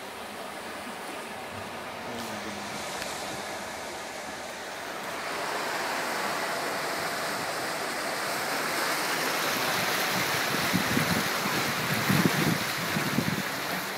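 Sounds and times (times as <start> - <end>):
car wheels through floodwater: 0.0 - 13.9.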